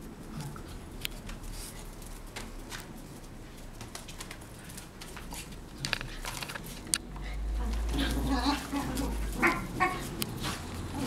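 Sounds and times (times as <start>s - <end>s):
dogs scuffling: 0.0s - 11.0s
paws clicking on concrete: 0.0s - 11.0s.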